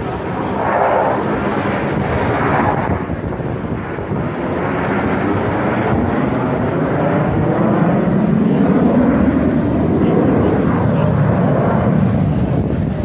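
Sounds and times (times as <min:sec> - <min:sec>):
airplane flying over: 0:00.0 - 0:13.0.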